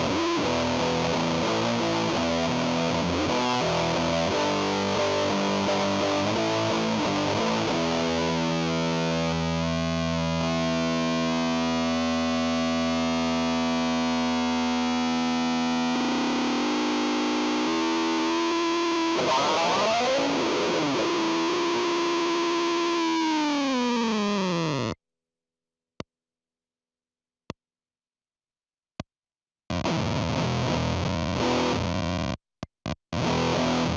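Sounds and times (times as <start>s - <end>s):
fuzzed electric guitar: 0.0s - 25.0s, 29.7s - 33.9s.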